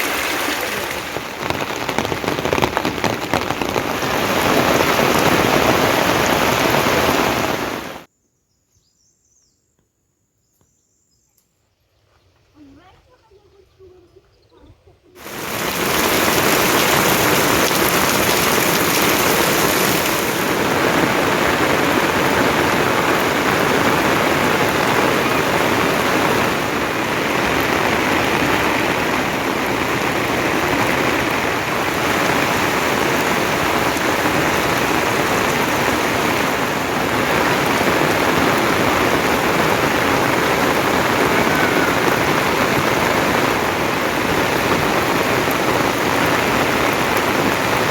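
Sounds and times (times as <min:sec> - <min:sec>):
rain pouring down: 0:00.0 - 0:08.1, 0:15.2 - 0:47.9.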